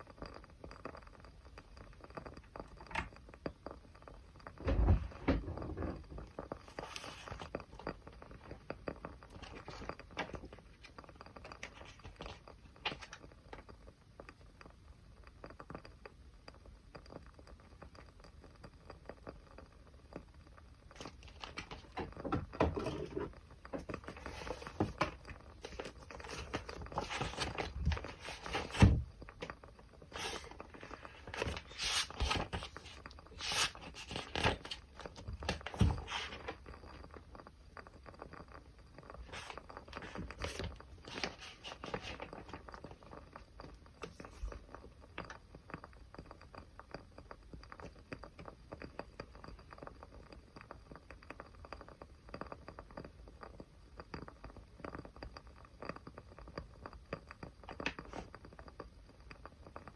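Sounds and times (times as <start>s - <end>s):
small fire crackling: 0.0s - 4.7s, 5.6s - 22.3s, 23.2s - 59.9s.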